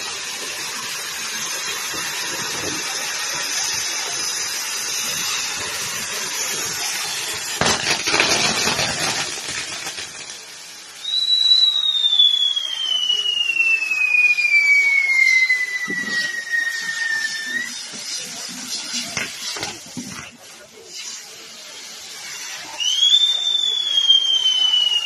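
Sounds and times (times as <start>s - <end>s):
firework crackling: 0.0s - 25.0s
firework spark fountains hissing: 0.0s - 25.0s.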